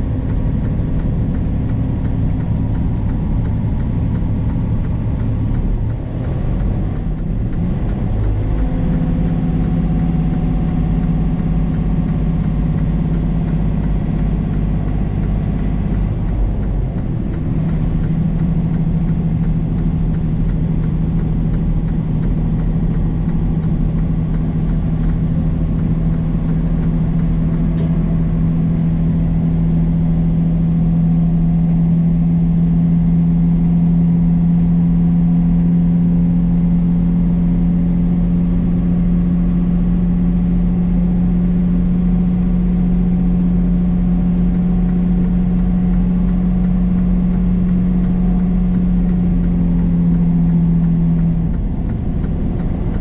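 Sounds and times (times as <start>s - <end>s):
road noise: 0.0s - 53.0s
truck diesel engine droning: 0.0s - 53.0s.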